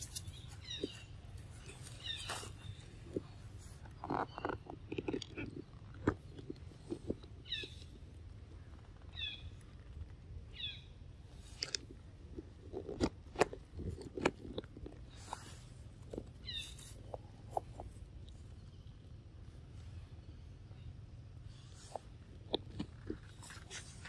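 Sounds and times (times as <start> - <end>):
sharp clicks and dry crackles: 0.0 - 18.8, 21.8 - 24.0
low steady rumble: 0.0 - 24.0.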